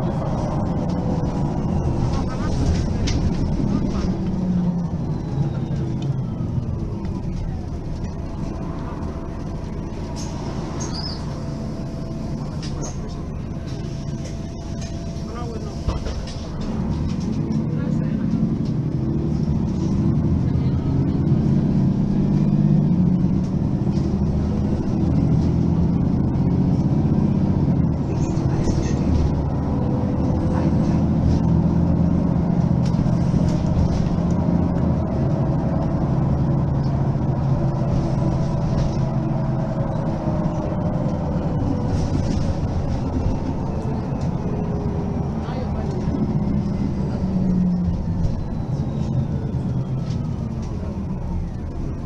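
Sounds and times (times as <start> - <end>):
bus diesel engine drone: 0.0 - 52.0.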